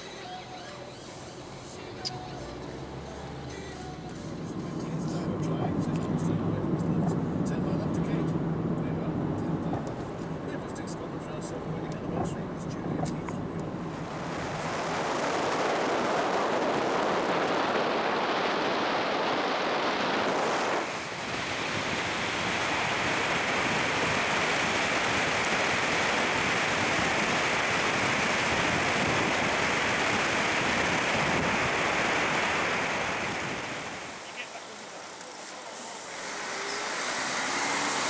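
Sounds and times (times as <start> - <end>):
wind rushing through car window: 3.9 - 38.0.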